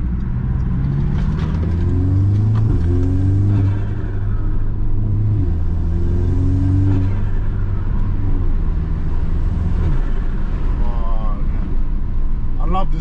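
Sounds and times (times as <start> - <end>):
turbocharged car engine accelerating: 0.0 - 11.9.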